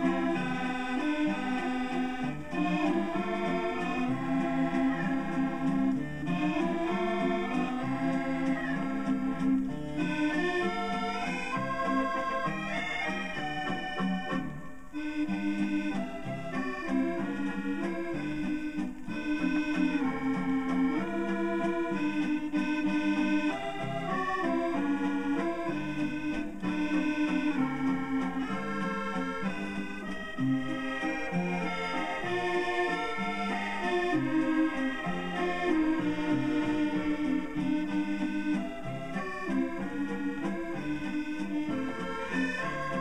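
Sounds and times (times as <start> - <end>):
accordion music from a record: 0.0 - 43.0.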